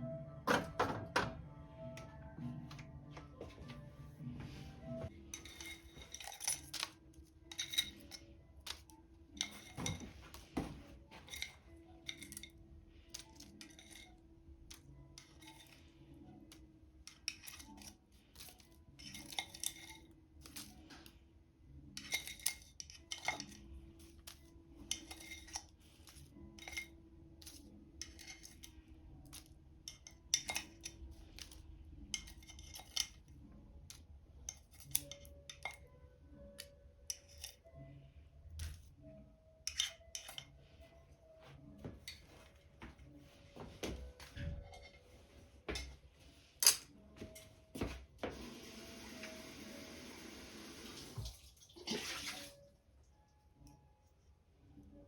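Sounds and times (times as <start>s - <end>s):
kitchen tools clicking and clinking: 0.4s - 3.8s, 4.8s - 21.1s, 21.8s - 35.9s, 36.6s - 37.8s, 38.5s - 40.9s, 41.8s - 48.5s.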